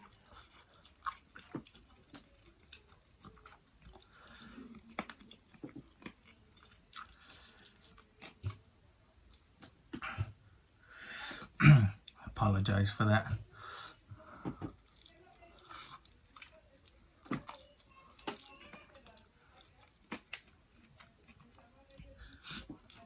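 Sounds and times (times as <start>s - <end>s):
mouth chewing food: 0.0s - 12.2s, 14.2s - 23.0s.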